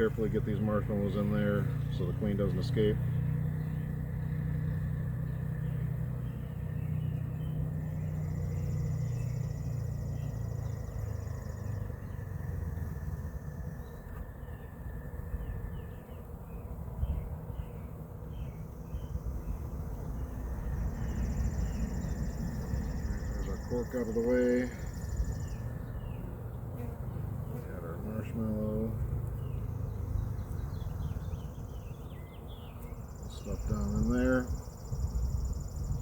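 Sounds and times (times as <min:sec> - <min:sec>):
birds chirping: 0:00.0 - 0:36.0
honeybees buzzing: 0:00.0 - 0:36.0.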